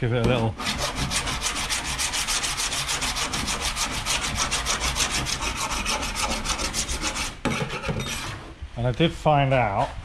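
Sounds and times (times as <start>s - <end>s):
metal file rasping on steel: 0.3s - 8.5s.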